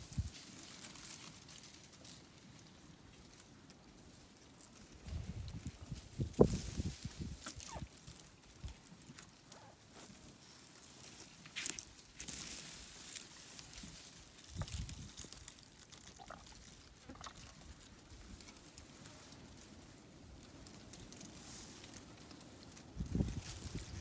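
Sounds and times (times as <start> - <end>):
rustling and crunching vegetation: 0.0 - 24.0.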